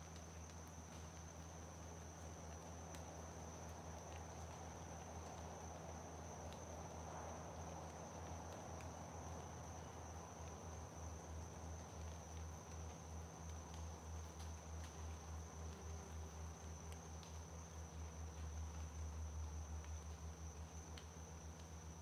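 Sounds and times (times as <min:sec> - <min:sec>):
faint ticks: 0:00.0 - 0:22.0
insects trilling: 0:00.0 - 0:22.0.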